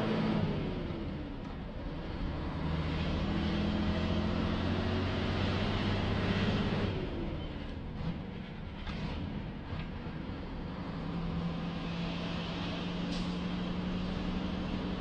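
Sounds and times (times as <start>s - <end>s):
truck engine pulling under power: 0.0s - 15.0s.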